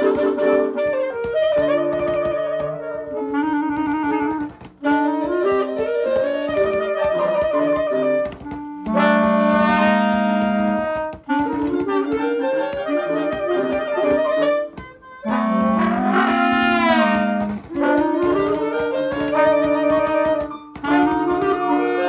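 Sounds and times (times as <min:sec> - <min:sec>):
wind ensemble playing: 0:00.0 - 0:22.0.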